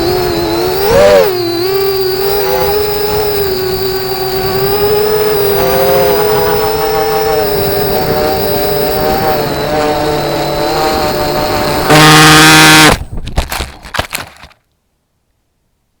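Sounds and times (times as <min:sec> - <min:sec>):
drone motors whining: 0:00.0 - 0:14.5.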